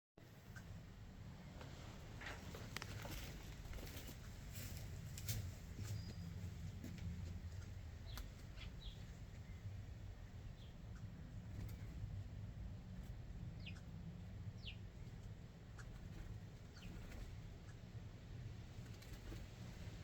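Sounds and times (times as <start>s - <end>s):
birds chirping faintly: 0.2s - 20.0s
steady low rumble: 0.2s - 20.0s.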